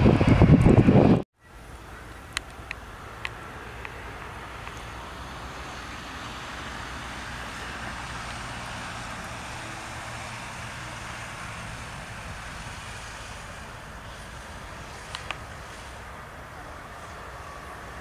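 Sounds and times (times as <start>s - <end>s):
distant jet engines rushing: 0.0s - 18.0s.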